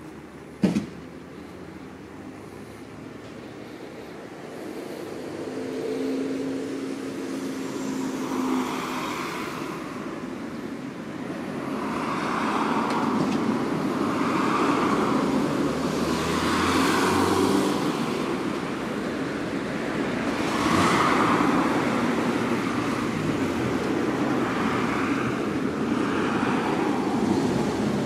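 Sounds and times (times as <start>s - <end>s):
cars passing by: 0.0s - 28.0s
road traffic: 0.0s - 28.0s.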